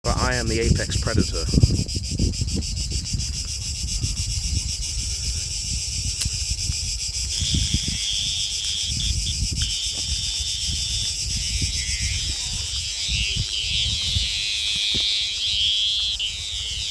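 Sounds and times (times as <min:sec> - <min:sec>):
wind on microphone: 0:00.0 - 0:16.9
cicadas buzzing: 0:00.1 - 0:16.9
lower insect buzz: 0:00.1 - 0:16.9.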